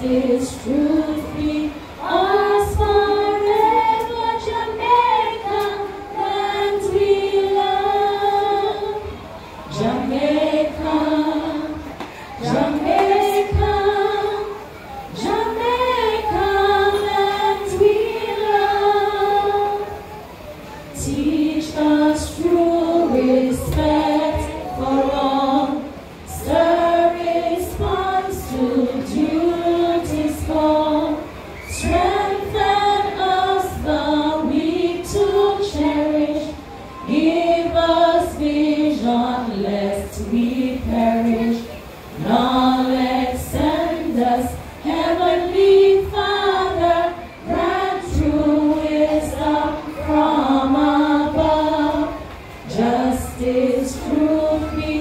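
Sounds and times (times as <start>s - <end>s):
group of people singing: 0.0s - 20.2s, 20.9s - 55.0s.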